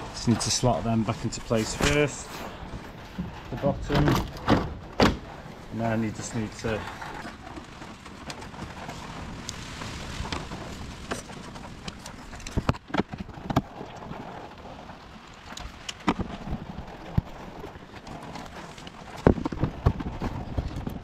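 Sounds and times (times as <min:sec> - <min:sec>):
rain on a shed roof: 0:00.0 - 0:21.0.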